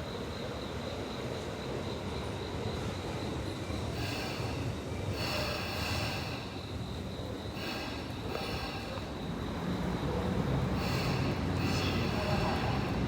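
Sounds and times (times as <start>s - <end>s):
electric train rumbling on rails: 0.0s - 13.0s.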